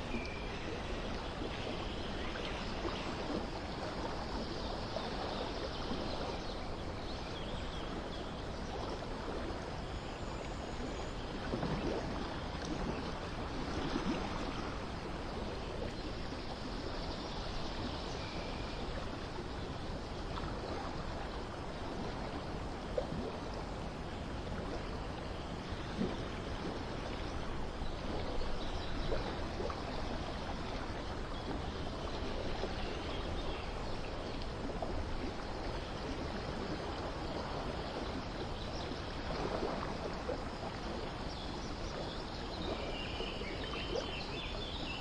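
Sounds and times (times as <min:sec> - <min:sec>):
water trickling and splashing: 0:00.0 - 0:45.0.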